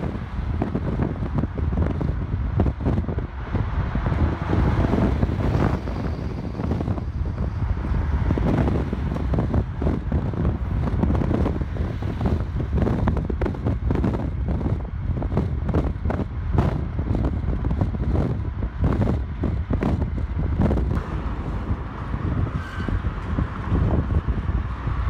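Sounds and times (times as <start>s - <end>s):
vehicle rumble: 0.0s - 25.0s
wind buffeting microphone: 0.0s - 25.0s.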